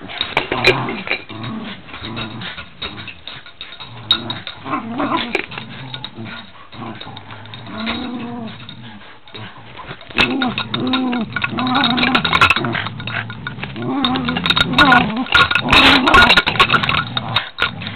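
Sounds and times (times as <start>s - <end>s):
dogs growling: 0.0s - 17.9s.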